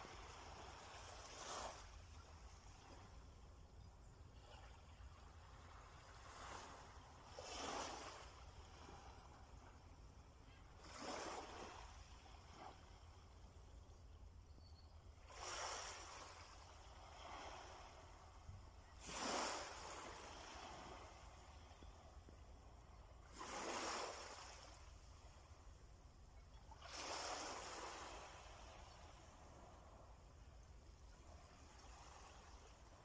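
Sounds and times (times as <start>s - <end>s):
waves breaking on shore: 0.0s - 3.5s, 4.3s - 13.8s, 15.1s - 26.0s, 26.6s - 33.0s.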